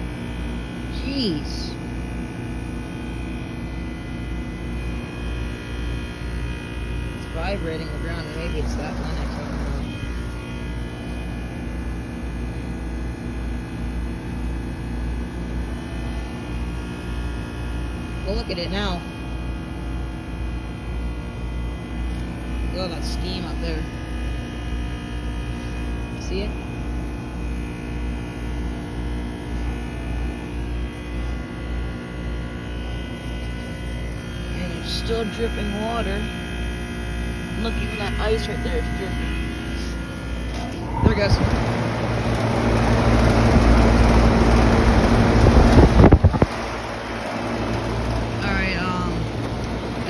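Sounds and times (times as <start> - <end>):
deep drone: 0.0 - 19.0, 20.2 - 50.0
air conditioner hum: 0.0 - 50.0.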